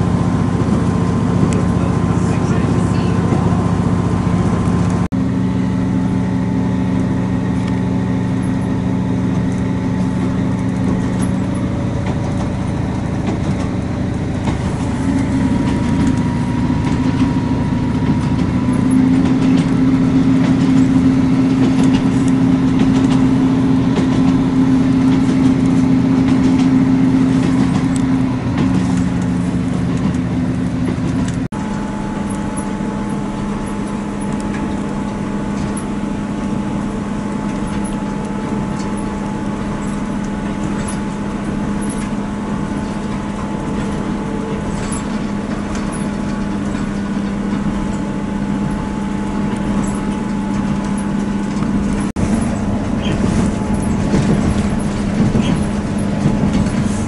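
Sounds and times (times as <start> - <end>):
diesel train engine hum: 0.0 - 57.0.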